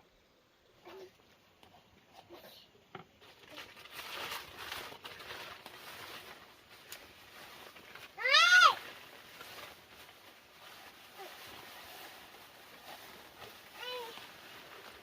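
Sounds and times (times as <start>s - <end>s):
rustling and crinkling: 0.6s - 15.0s.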